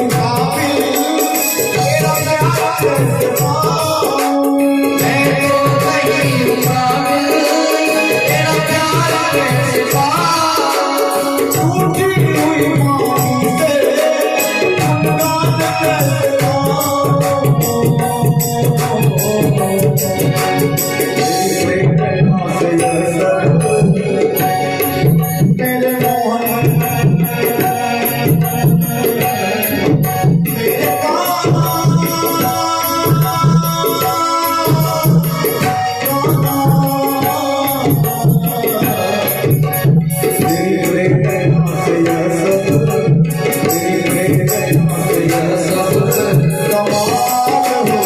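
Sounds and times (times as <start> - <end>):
tabla beat: 0.0 - 48.0.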